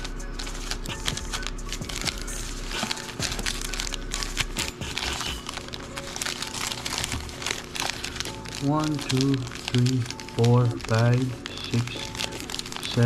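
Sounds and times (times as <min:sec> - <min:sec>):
foil card packs crinkling: 0:00.0 - 0:13.0.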